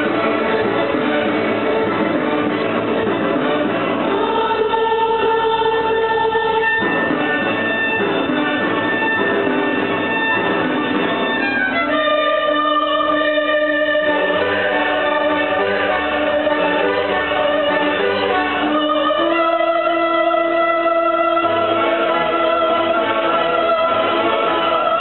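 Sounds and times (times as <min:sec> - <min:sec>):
orchestra playing held chords: 0:00.0 - 0:25.0.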